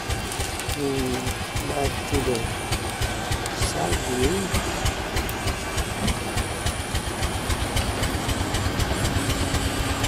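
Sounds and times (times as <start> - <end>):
model pumpjack knocking rhythmically: 0.0 - 10.0.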